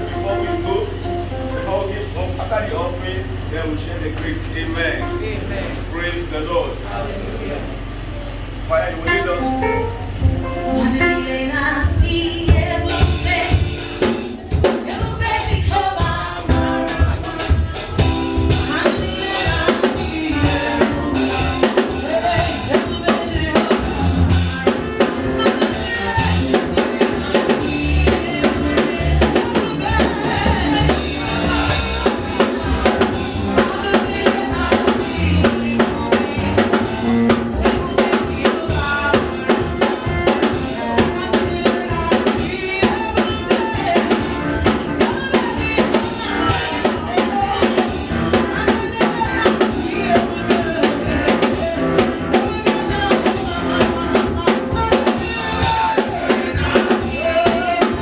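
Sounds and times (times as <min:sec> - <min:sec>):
upbeat drum-driven music: 0:09.1 - 0:11.2, 0:11.8 - 0:58.0.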